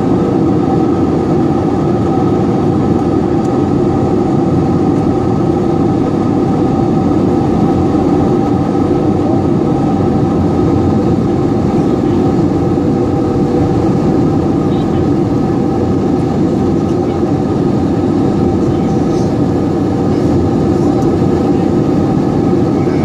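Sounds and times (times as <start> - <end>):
airplane cabin drone: 0.0 - 23.0
steady humming tones: 0.0 - 23.0.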